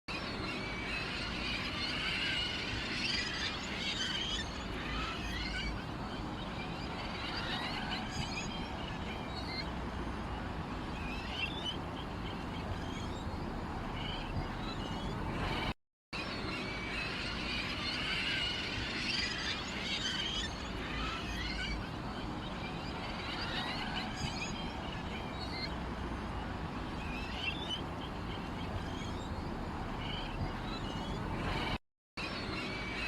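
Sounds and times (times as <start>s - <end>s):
small birds chirping: 0.3s - 15.8s, 18.1s - 31.8s.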